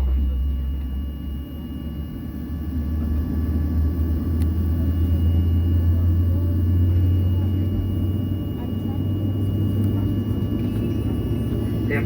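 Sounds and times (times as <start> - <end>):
jet engine rumble from cabin: 0.0 - 12.0.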